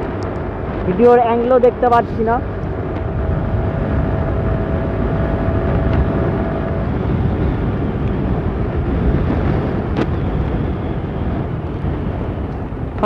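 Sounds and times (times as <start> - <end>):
motorcycle engine and road noise: 0.0 - 13.0
wind rushing over microphone: 0.0 - 13.0.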